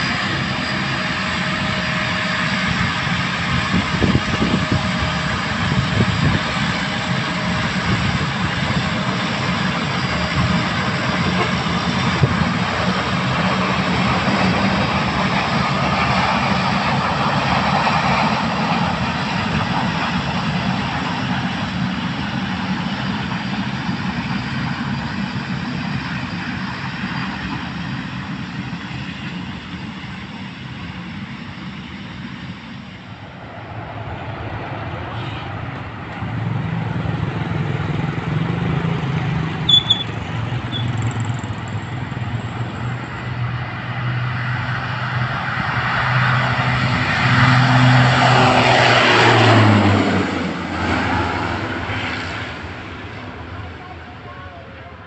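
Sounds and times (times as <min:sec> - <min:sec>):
turboprop engines and propellers: 0:00.0 - 0:55.0.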